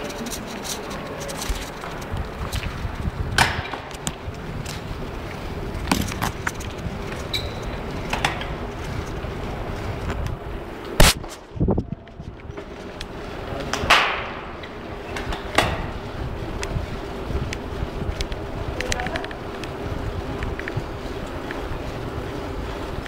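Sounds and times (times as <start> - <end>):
bicycle knocks and rattles: 0.0 - 23.0
bicycle tyres rumbling: 0.0 - 23.0.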